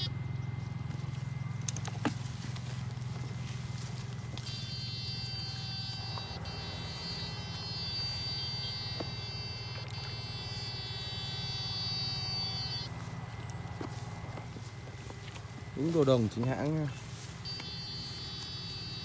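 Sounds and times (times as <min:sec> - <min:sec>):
high whine: 0:00.0 - 0:19.0
inverter buzzing: 0:00.0 - 0:19.0.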